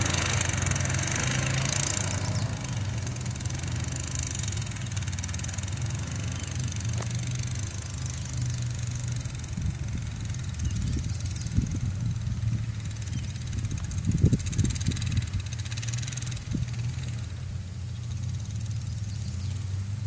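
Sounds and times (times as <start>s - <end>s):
steady motor hum: 0.0s - 20.0s.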